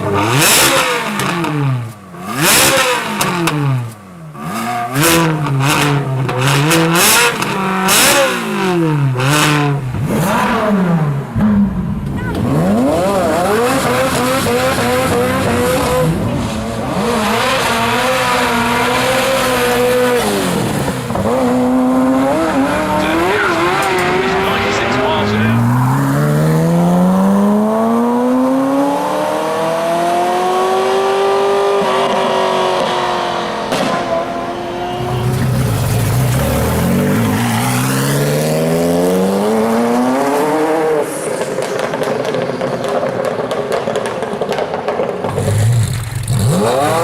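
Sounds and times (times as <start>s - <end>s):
car engine revving with cracks: 0.0s - 47.0s.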